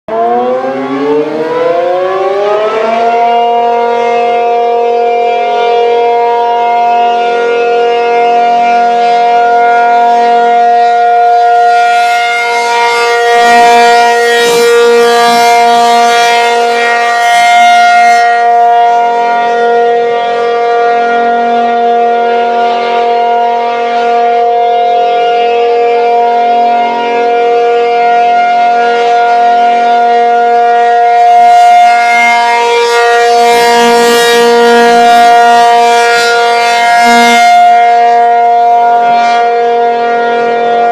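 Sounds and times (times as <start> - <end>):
tornado siren wailing: 0.1 - 40.9.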